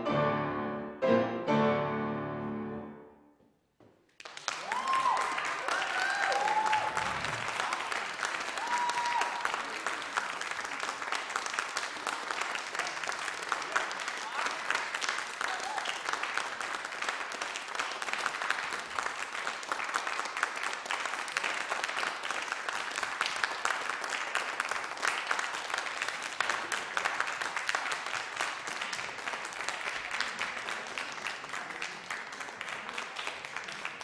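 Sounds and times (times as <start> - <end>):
audience applauding: 4.1 - 34.0.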